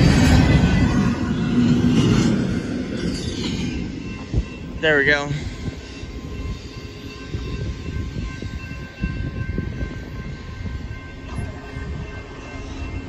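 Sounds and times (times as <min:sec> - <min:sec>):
freight train rumbling: 0:00.0 - 0:13.0
wheels clattering on rails: 0:00.0 - 0:13.0.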